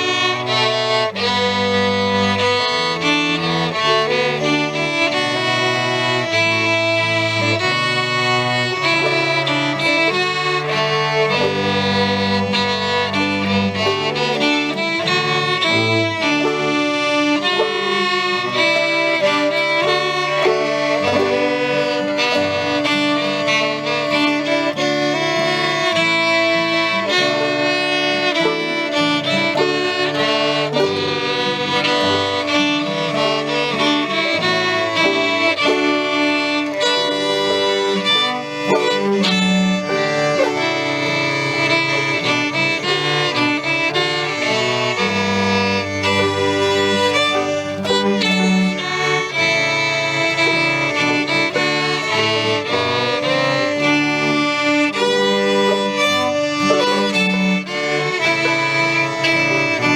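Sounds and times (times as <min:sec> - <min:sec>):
fiddle playing quick melody: 0:00.0 - 0:59.9
instrumental accompaniment: 0:00.0 - 0:59.9.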